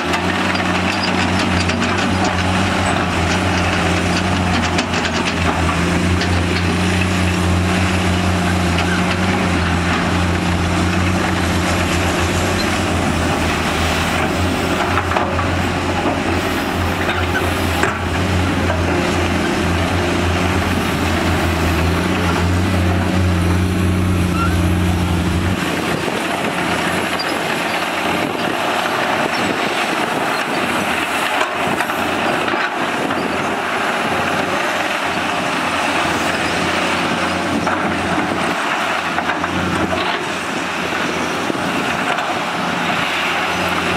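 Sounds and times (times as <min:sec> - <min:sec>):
diesel engine drone: 0:00.0 - 0:43.9.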